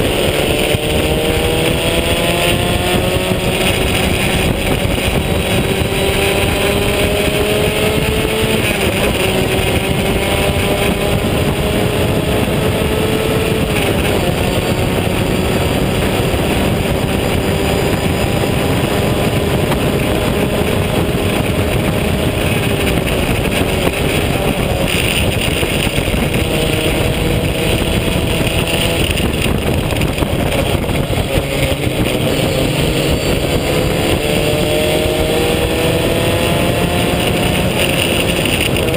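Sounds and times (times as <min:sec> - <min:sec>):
race car engine at high revs: 0:00.0 - 0:38.9
wind and road noise: 0:00.0 - 0:38.9.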